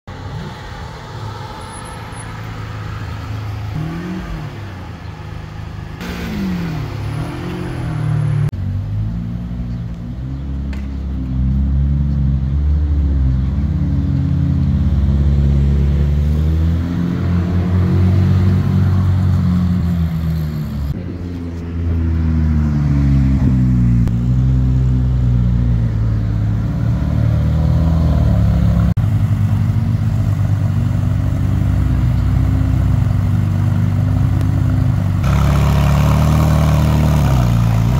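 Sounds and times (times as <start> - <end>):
sports car engines revving: 0.3 - 37.9.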